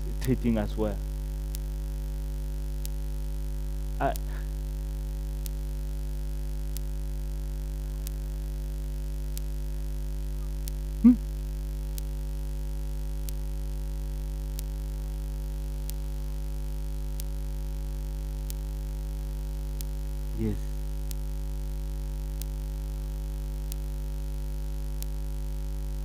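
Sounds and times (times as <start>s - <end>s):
electrical mains hum: 0.0s - 26.0s
faint regular ticks: 0.0s - 26.0s.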